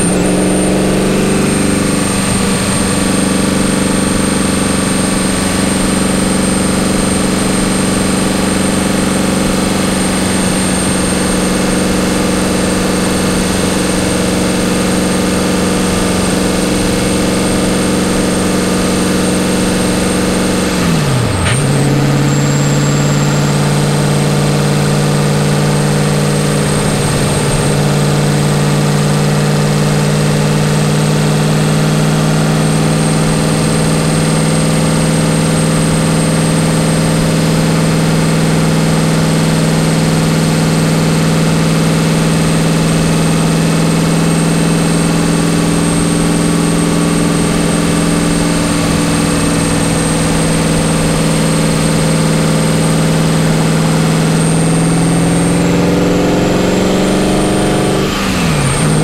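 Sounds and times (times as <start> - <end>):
car engine running: 0.0 - 59.0
road and wind noise: 0.0 - 59.0.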